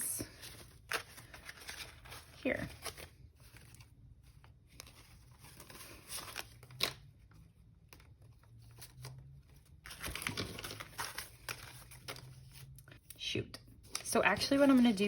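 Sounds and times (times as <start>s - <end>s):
paper banknotes rustling: 0.2s - 13.0s, 14.0s - 15.0s.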